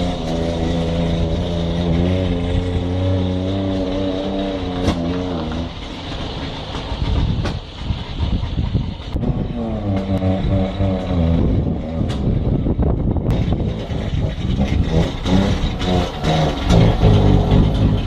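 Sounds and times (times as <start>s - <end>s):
two-stroke van engine running: 0.0s - 18.0s.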